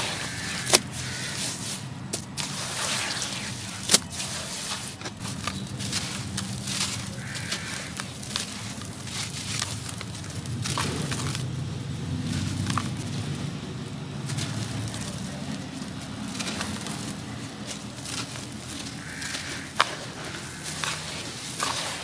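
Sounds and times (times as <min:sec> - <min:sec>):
cement chunks crunching by hand: 0:00.0 - 0:22.0
grit pouring down: 0:00.0 - 0:22.0.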